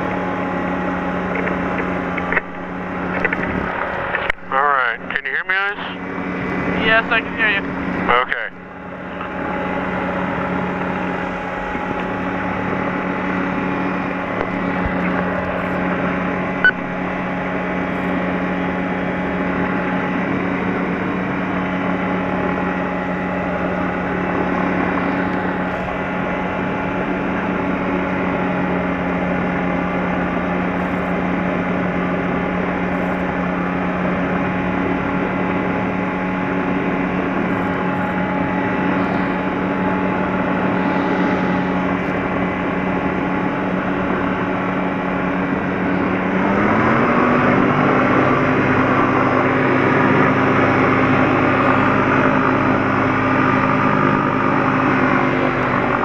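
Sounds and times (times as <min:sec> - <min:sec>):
airplane piston engine drone: 0:00.0 - 0:56.0.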